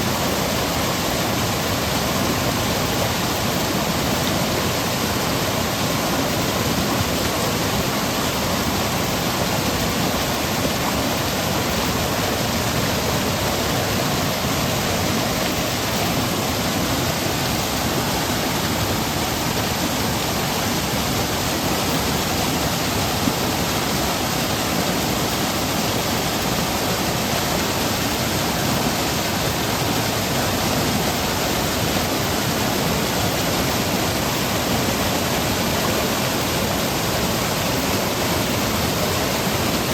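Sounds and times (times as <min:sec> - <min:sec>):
stream cascading over rocks: 0:00.0 - 0:39.9.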